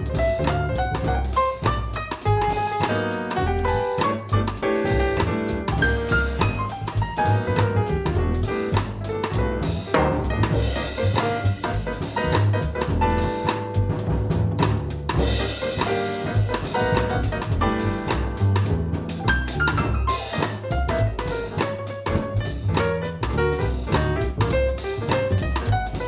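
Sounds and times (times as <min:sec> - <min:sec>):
drum kit: 0:00.0 - 0:26.0
live jazz band: 0:00.0 - 0:26.0
piano playing: 0:00.0 - 0:26.0.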